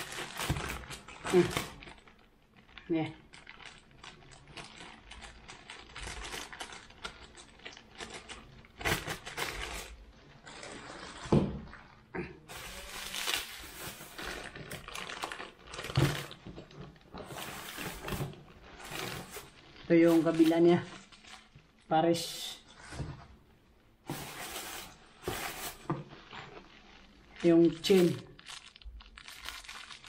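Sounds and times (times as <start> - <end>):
plastic and bubble wrap crinkling: 0.0 - 30.0.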